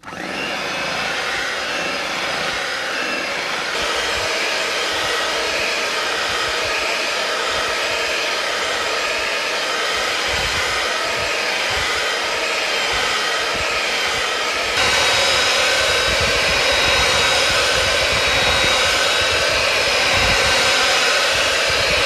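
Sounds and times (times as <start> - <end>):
electric hand mixer whirring: 0.0 - 22.0.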